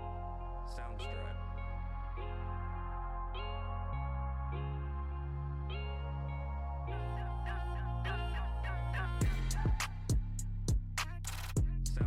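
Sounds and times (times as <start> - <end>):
electronic chords over deep bass: 0.0 - 12.0.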